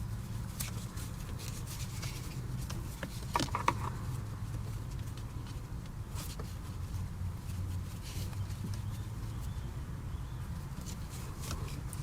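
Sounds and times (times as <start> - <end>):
rope rustling and scraping: 0.0 - 9.7, 10.4 - 12.0.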